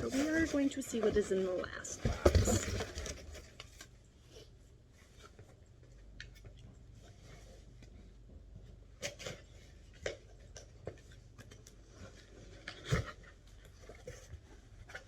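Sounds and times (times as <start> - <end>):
boxes and packing handled: 0.0 - 15.0.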